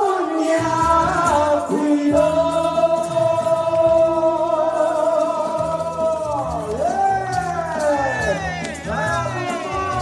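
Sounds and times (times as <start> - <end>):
person singing into microphone: 0.0 - 10.0.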